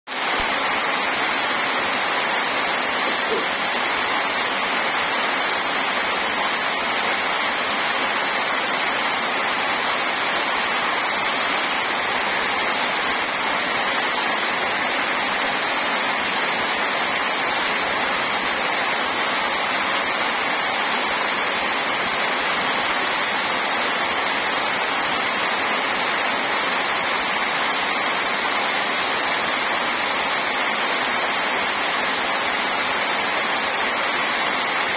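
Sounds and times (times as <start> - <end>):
heavy rain on puddles: 0.1 - 34.9.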